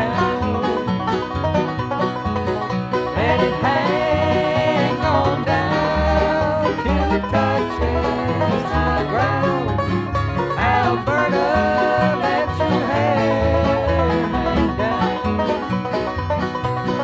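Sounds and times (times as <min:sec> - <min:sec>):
banjo: 0:00.0 - 0:17.0
bass line: 0:00.0 - 0:17.0
guitar: 0:00.0 - 0:17.0
sliding lead melody: 0:00.0 - 0:17.0.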